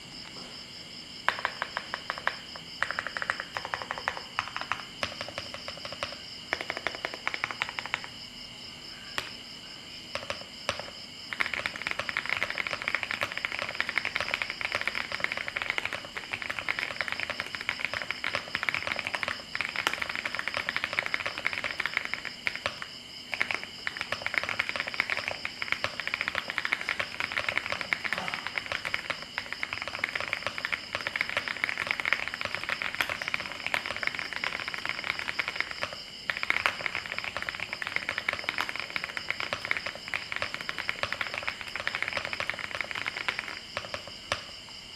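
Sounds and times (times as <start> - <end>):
mechanical keyboard typing: 1.3 - 8.2, 10.1 - 44.5.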